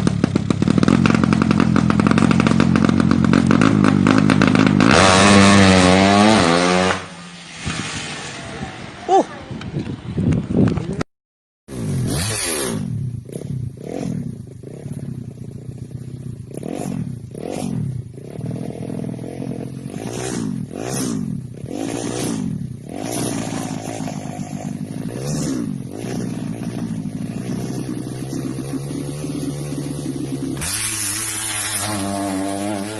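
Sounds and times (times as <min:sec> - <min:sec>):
motorcycle engine revving: 0:00.0 - 0:11.0, 0:11.7 - 0:32.9.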